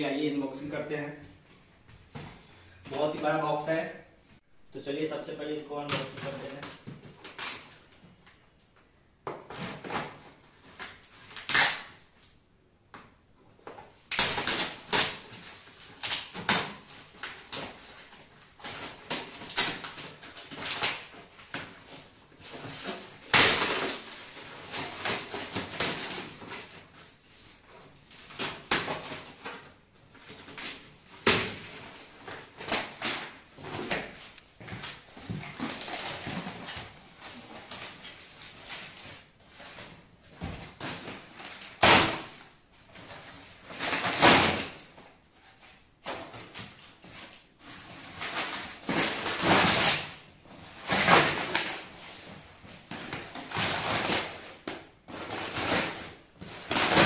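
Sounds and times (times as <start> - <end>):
cardboard and tape tearing: 5.8 - 7.8, 9.5 - 12.0, 14.1 - 27.0, 27.6 - 45.0, 46.0 - 57.0.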